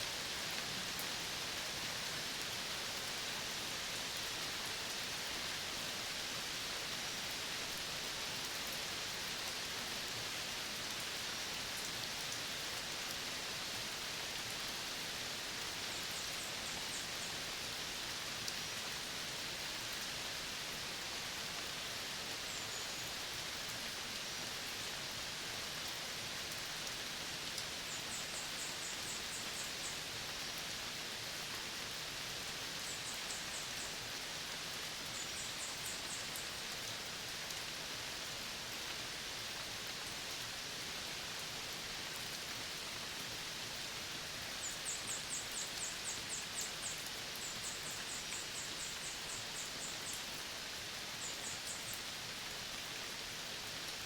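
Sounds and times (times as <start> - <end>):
forest ambience hiss: 0.0 - 54.0.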